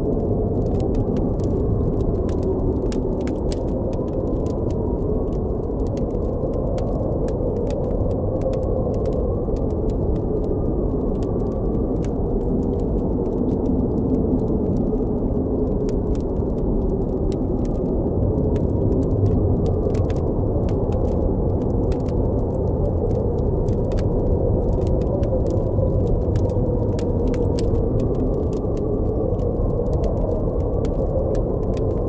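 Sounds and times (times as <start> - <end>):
blizzard wind: 0.0 - 32.0
campfire crackling: 0.0 - 32.0.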